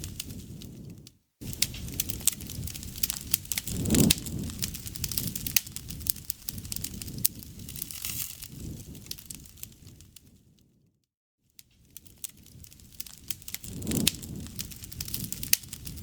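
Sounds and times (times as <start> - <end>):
campfire crackling and popping: 0.0 - 10.6, 11.6 - 16.0.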